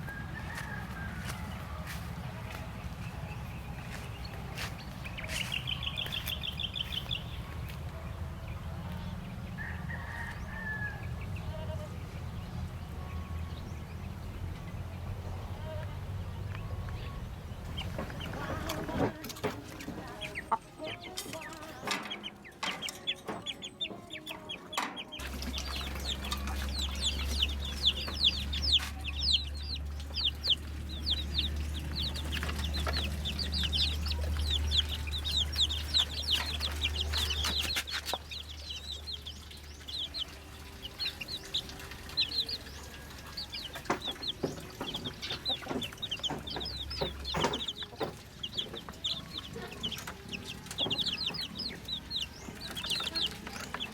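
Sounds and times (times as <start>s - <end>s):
chickens clucking and peeping: 0.0s - 53.9s.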